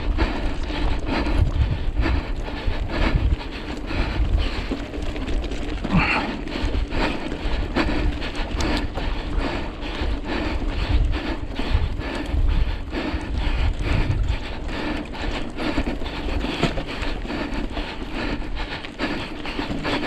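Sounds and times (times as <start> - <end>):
mountain bike rattling on rocks: 0.0 - 20.0
wind buffeting microphone: 0.0 - 20.0.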